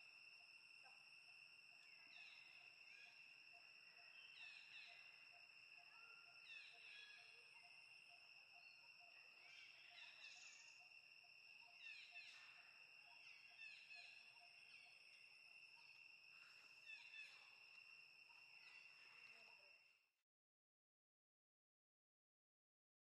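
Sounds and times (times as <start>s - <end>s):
high insect drone: 0.0s - 20.1s.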